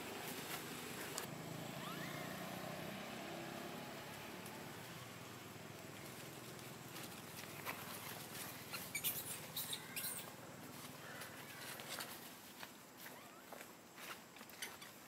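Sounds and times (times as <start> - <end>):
distant motor vehicle hum: 0.0 - 12.2.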